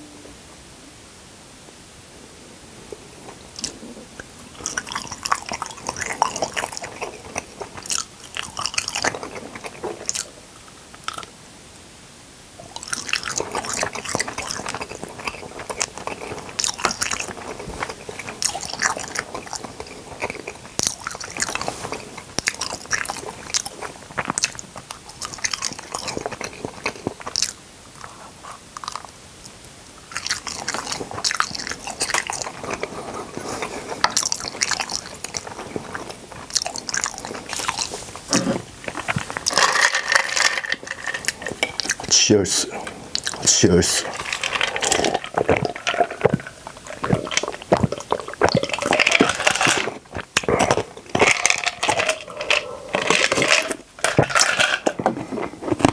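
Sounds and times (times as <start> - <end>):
chewing crunchy food: 2.9 - 11.4, 12.6 - 55.9.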